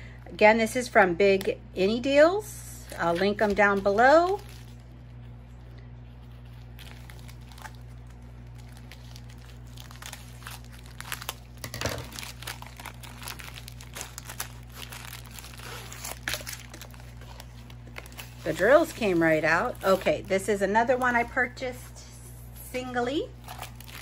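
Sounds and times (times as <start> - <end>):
steady low hum: 0.0 - 24.0
plastic packaging crinkling: 2.8 - 21.4, 23.4 - 24.0.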